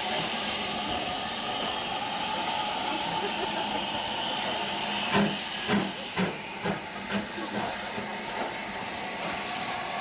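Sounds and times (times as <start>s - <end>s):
soft steam beats: 0.0s - 10.0s
steam locomotive hissing: 0.0s - 10.0s.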